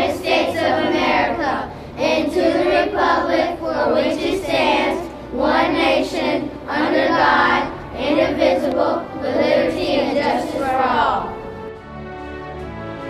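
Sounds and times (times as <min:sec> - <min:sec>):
children reciting in unison: 0:00.0 - 0:11.4.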